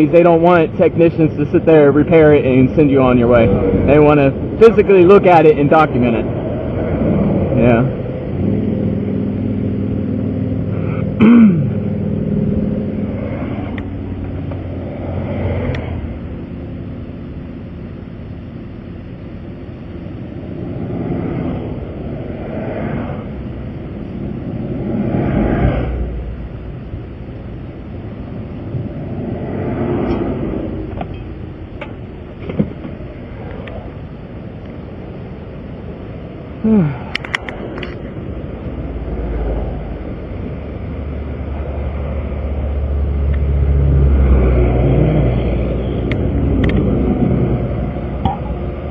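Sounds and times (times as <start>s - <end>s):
low engine hum: 0.0s - 48.9s
vehicles passing: 0.0s - 48.9s.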